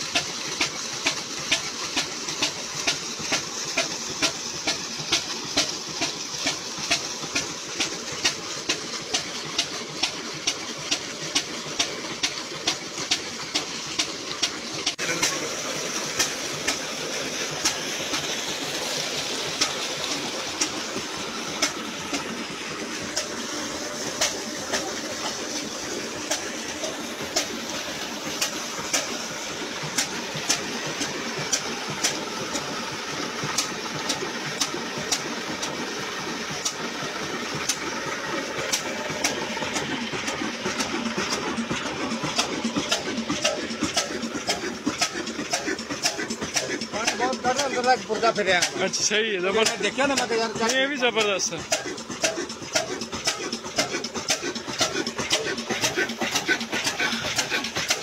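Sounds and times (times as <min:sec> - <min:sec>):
stationary engine beating: 0:00.0 - 0:58.0
water gushing into a tank: 0:00.0 - 0:58.0.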